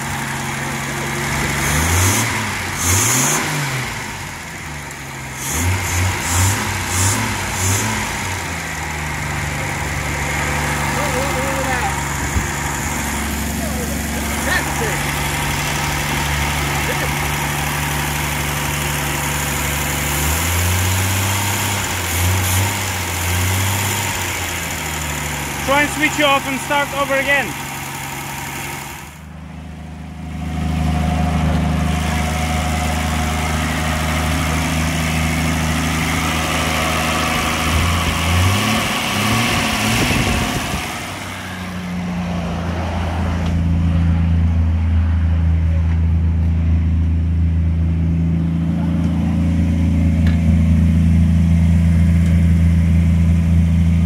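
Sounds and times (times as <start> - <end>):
petrol engine running and revving: 0.0 - 54.0.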